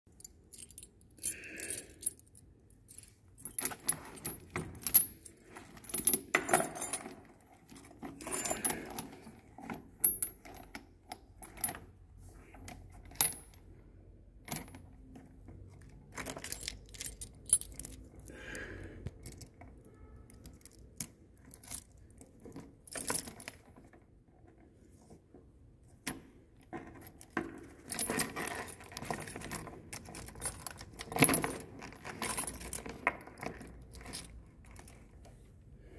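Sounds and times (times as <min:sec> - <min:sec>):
metal chain clinking and rattling: 0:00.1 - 0:24.0, 0:26.6 - 0:35.2.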